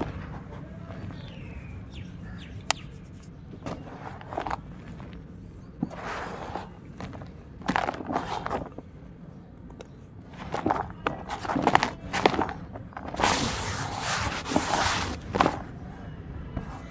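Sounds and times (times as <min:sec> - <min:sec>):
hands crunching gravelly dirt: 0:00.0 - 0:09.0, 0:09.6 - 0:15.9.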